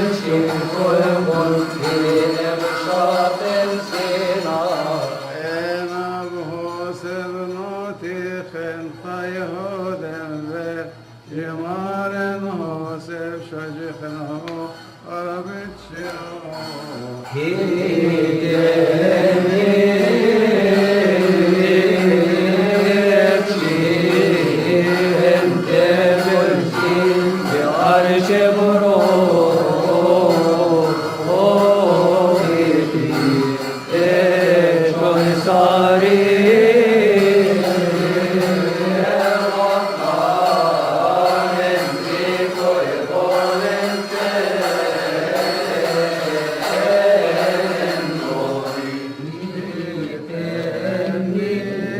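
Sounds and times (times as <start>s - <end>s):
man chanting a hymn: 0.0s - 51.9s.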